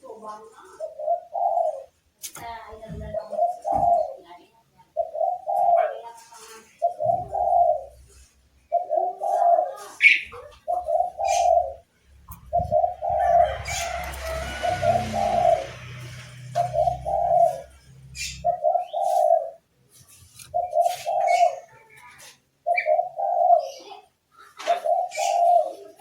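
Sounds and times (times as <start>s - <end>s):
bird cooing: 0.3s - 2.0s, 2.8s - 19.7s, 20.3s - 26.0s.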